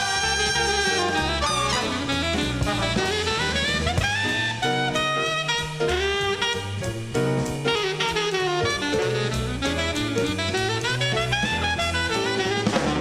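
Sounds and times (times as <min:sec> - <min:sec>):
big band jazz from a vinyl record: 0:00.0 - 0:13.0.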